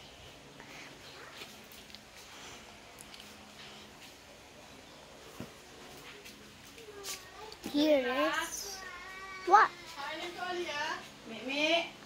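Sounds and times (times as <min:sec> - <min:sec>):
faint rustling and handling: 0:00.3 - 0:11.2.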